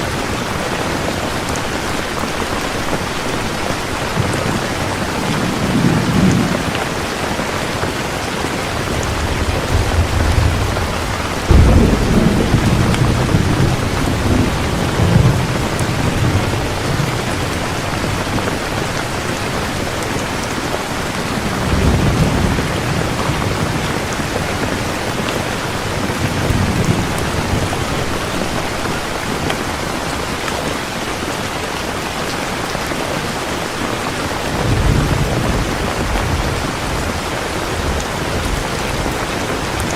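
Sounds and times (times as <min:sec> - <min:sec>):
heavy rain falling: 0:00.0 - 0:39.9
thunder rumbling: 0:00.1 - 0:29.7, 0:34.2 - 0:39.9.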